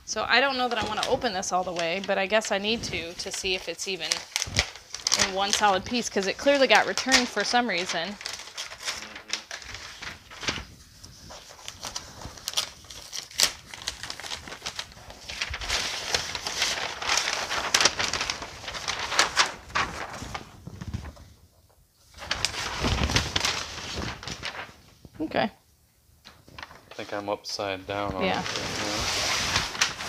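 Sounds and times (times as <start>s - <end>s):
packing paper rustling and crinkling: 0.1s - 25.2s, 26.3s - 30.0s.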